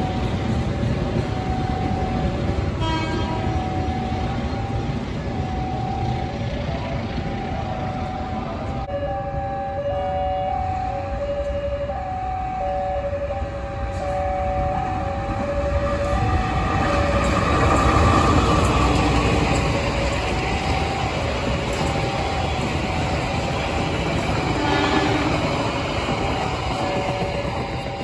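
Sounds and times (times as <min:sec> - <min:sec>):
train wheels on rails: 0:00.0 - 0:08.9, 0:13.2 - 0:28.0
locomotive engine: 0:00.0 - 0:28.0.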